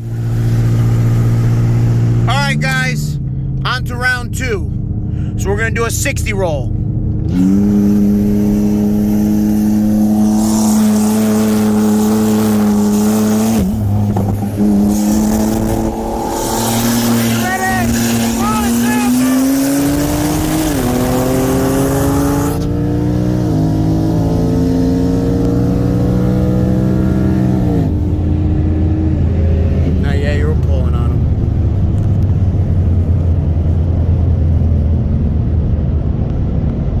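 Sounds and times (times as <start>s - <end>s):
car engine droning: 0.0s - 37.0s.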